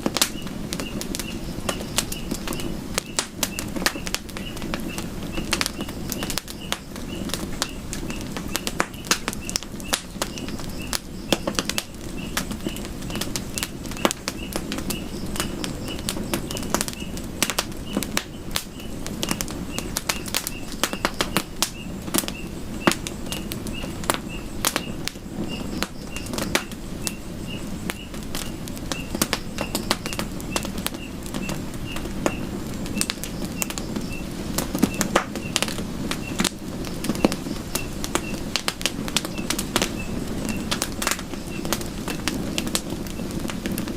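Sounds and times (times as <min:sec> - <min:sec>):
campfire crackling and popping: 0:00.0 - 0:43.9
low rush of flames: 0:00.0 - 0:43.9.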